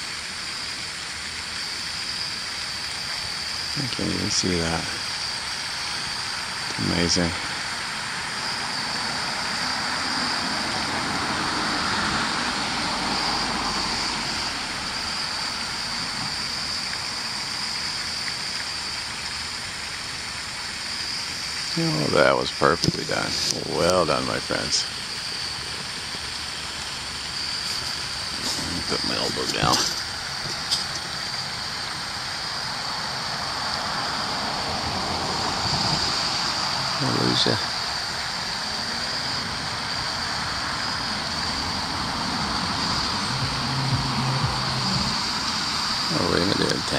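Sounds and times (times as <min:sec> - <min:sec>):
high-pitched drone: 0:00.0 - 0:46.9
high-pitched whine: 0:00.0 - 0:46.9
steady rushing noise: 0:00.0 - 0:46.9.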